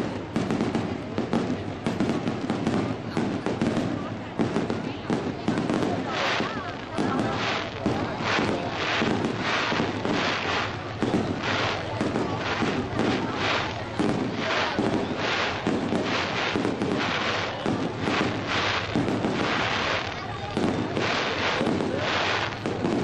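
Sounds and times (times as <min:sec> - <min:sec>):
fireworks bangs: 0:00.0 - 0:23.0
fireworks crackling: 0:00.0 - 0:23.0.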